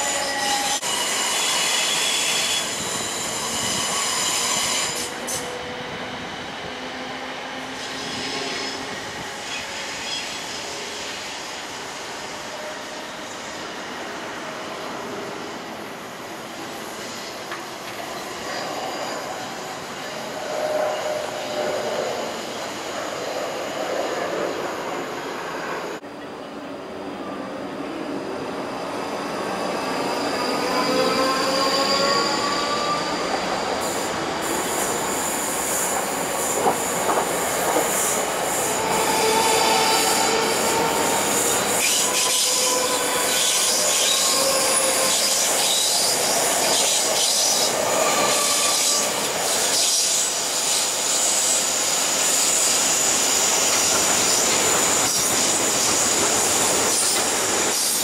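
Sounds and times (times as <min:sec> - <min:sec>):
train wheels squealing: 0:00.0 - 0:13.9, 0:16.6 - 0:26.0, 0:27.3 - 0:58.0.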